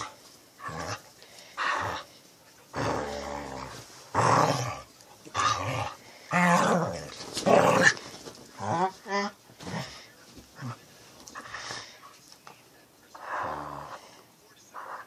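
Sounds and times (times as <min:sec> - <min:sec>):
dogs growling: 0:00.0 - 0:11.8, 0:13.1 - 0:14.1.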